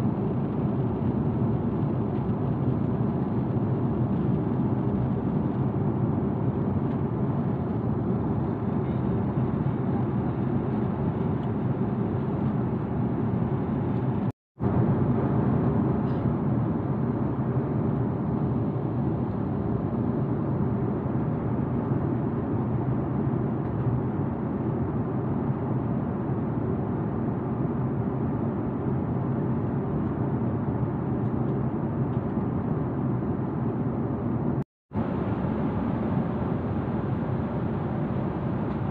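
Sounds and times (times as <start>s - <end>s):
airliner cabin noise: 0.0s - 38.9s.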